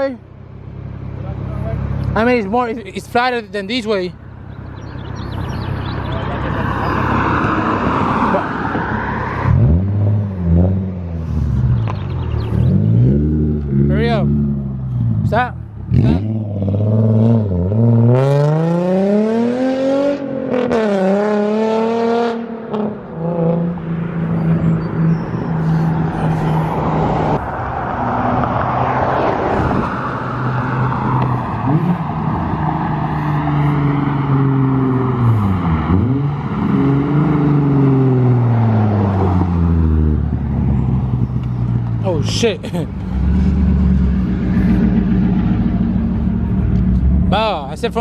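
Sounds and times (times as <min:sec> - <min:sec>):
wind and road noise: 0:00.0 - 0:48.0
car engine accelerating hard: 0:04.8 - 0:48.0.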